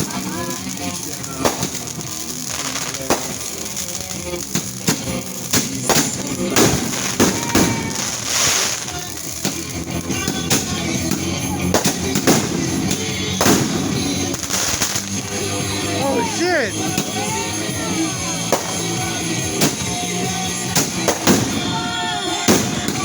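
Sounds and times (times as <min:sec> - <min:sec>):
background music: 0:00.0 - 0:23.0
firework bangs: 0:00.0 - 0:23.0
firework crackling: 0:00.0 - 0:23.0.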